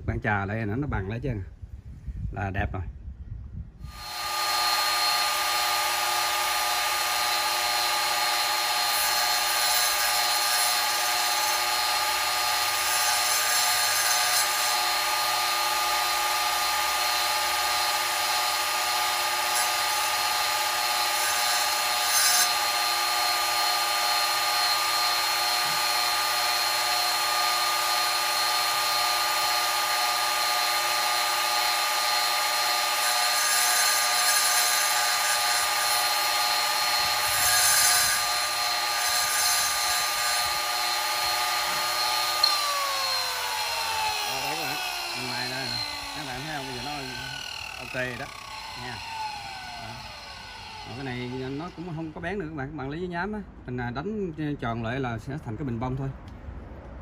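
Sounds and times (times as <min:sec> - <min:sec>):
wet tile saw grinding glass: 0:03.9 - 0:50.1, 0:50.8 - 0:52.2.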